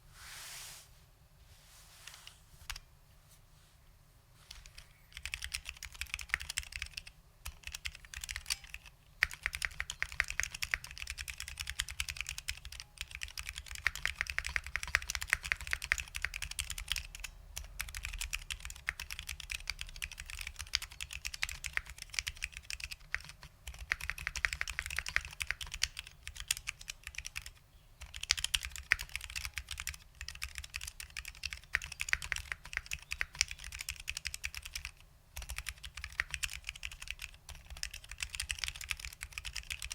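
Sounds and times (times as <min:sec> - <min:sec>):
fast mechanical keyboard typing: 0:04.5 - 0:39.9.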